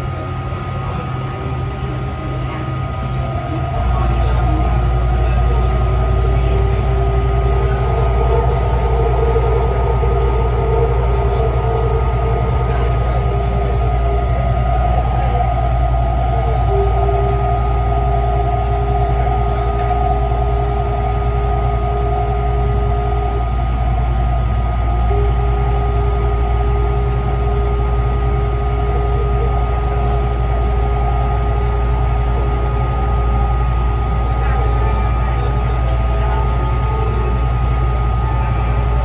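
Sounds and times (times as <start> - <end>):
metro train rumble: 0.0 - 39.0
whining drive tones: 2.3 - 39.0.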